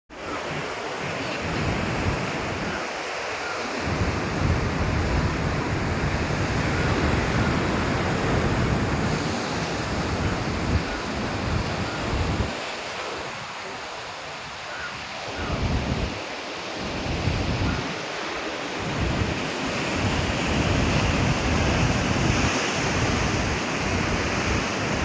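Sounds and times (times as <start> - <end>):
sea surf washing in: 0.2 - 25.0
wind buffeting microphone: 0.4 - 3.0, 3.8 - 25.0.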